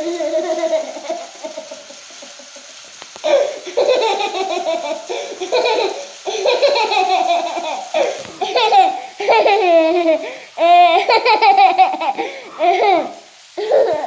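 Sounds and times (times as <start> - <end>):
toddler laughing: 0.0 - 14.0.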